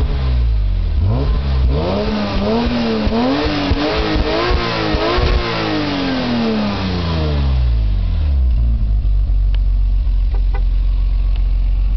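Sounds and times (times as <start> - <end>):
car engine revving down to idle: 0.0 - 11.9.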